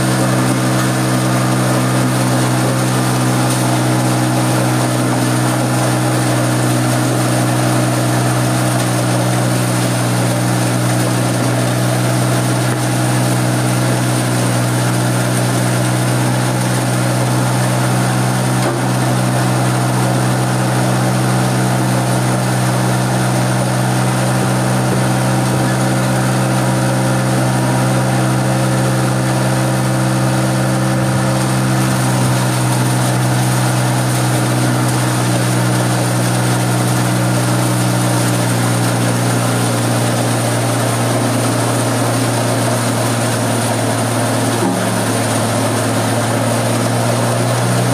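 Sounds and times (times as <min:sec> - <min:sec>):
stone crusher running: 0:00.0 - 0:47.9.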